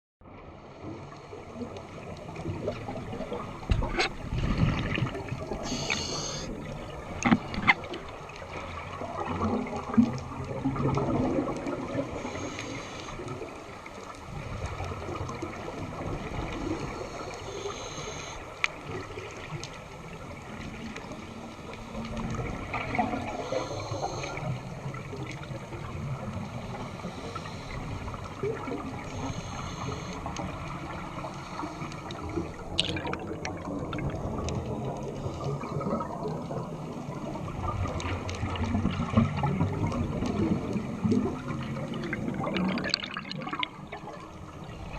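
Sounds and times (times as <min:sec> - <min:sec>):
low water rumble: 0:00.2 - 0:44.9
regulator bubbles gurgling: 0:00.2 - 0:44.9.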